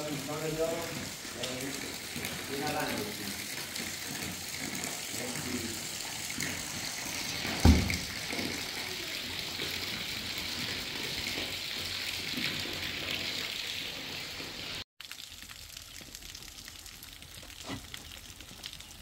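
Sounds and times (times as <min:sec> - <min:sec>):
steady rain hiss: 0:00.0 - 0:09.4, 0:12.6 - 0:19.0.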